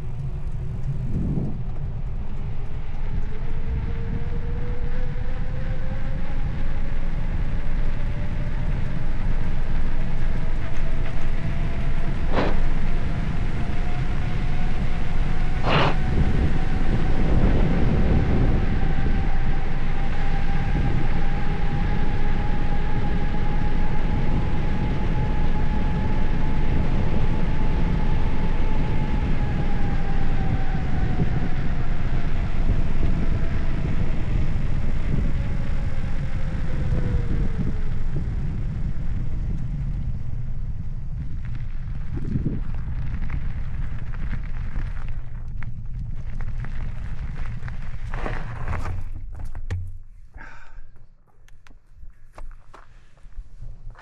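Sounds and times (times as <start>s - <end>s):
bicycle road noise: 0.0s - 54.0s
faint hum: 0.0s - 54.0s
wind over microphone: 0.0s - 54.0s.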